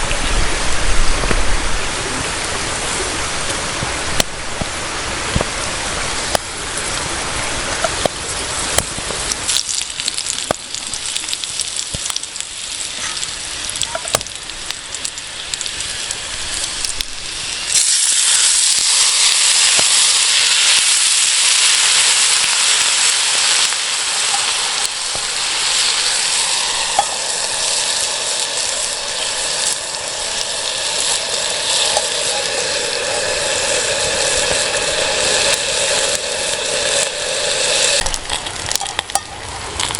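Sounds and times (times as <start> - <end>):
food sizzling in frying pan: 0.0 - 39.9
wood fire crackles: 0.0 - 39.9.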